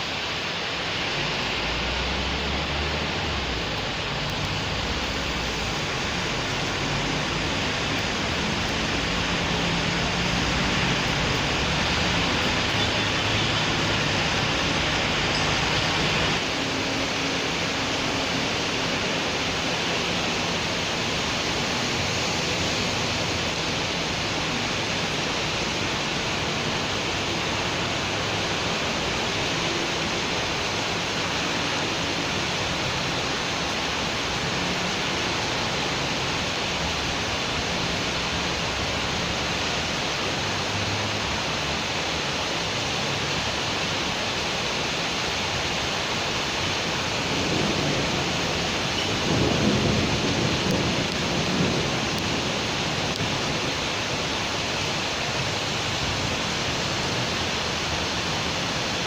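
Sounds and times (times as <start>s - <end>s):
rain on city street: 0.0s - 59.0s
traffic on wet road: 0.0s - 59.0s.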